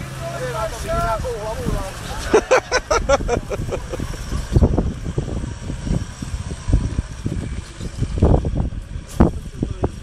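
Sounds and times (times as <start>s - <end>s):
vehicle engine crawling over rough ground: 0.0s - 10.0s.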